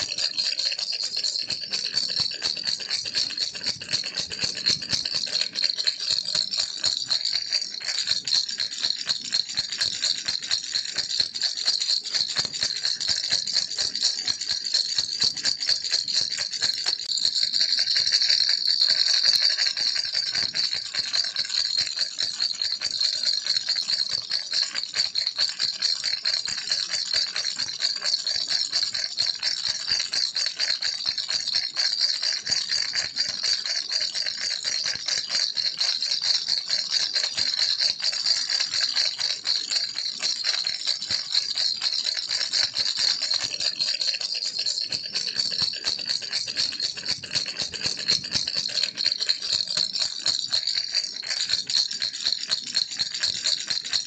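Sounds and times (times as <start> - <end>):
baby rattle shaken: 0.0 - 14.5, 15.2 - 54.0.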